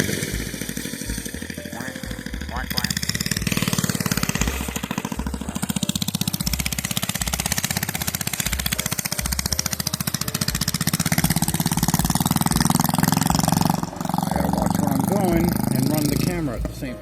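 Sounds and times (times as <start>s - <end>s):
mini bike engine running: 0.0s - 17.0s.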